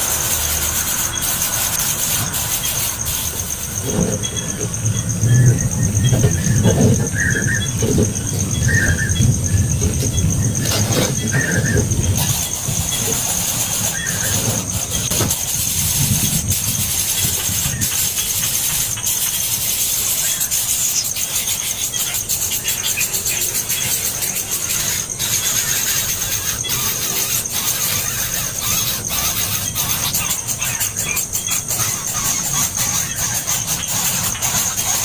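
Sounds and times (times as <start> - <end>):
baby birds begging calls: 0.0 - 35.0.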